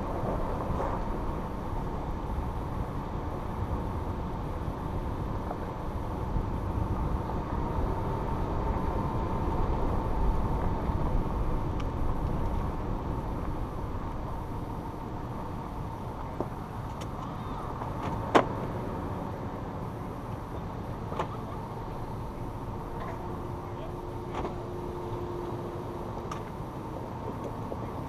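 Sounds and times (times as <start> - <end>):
vehicle rumbling on gravel: 0.0 - 28.0.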